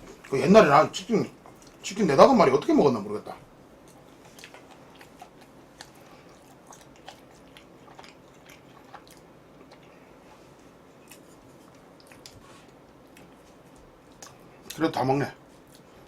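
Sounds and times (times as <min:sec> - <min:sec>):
chewing and crunching: 0:01.4 - 0:02.0, 0:03.7 - 0:16.0.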